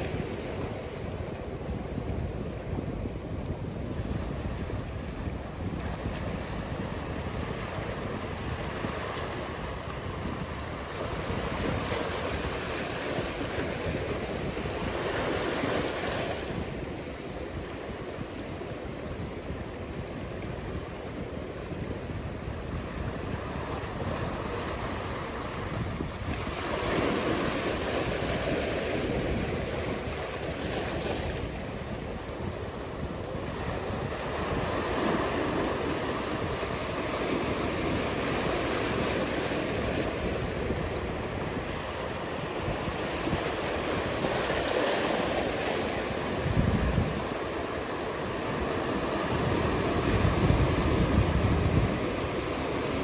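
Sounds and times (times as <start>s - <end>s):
waves breaking: 0.0s - 53.0s
wind: 0.0s - 53.0s.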